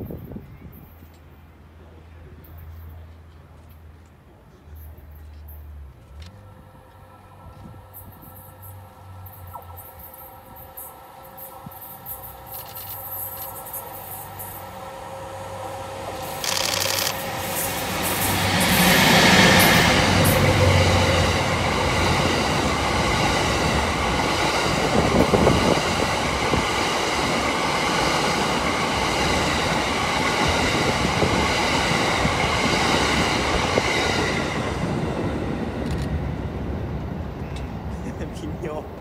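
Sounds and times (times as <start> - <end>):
electric locomotive passing: 0.0 - 39.0
train wheels rumbling on rails: 2.4 - 39.0.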